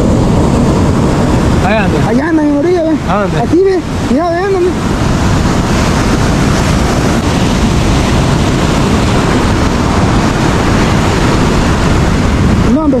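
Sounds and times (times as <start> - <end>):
ocean surf breaking: 0.0 - 13.0
wind rumbling on microphone: 0.0 - 13.0.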